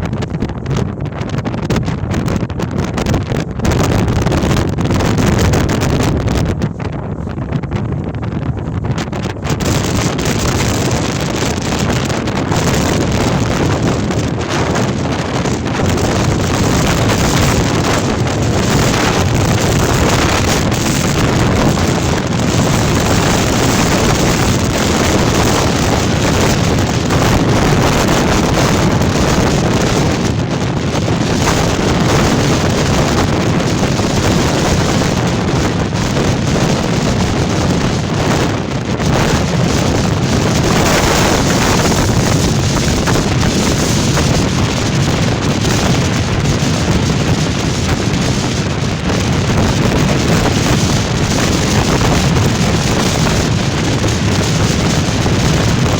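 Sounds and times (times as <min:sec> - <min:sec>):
strong gusty wind: 0:00.0 - 0:55.9
wind noise on microphone: 0:00.0 - 0:55.9.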